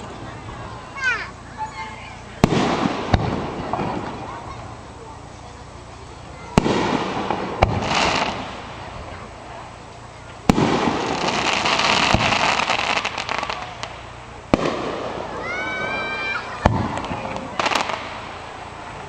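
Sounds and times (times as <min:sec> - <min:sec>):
fireworks crackling spray: 0:00.0 - 0:19.0
fireworks bangs: 0:01.8 - 0:19.0.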